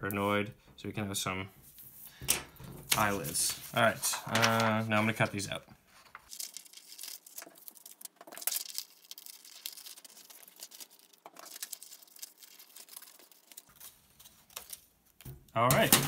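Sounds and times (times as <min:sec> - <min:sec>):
paper rustling: 0:01.6 - 0:16.0.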